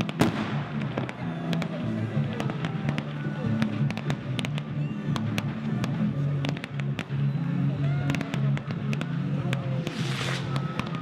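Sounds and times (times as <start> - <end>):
fireworks bursting and crackling: 0.0 - 11.0
music: 0.0 - 11.0.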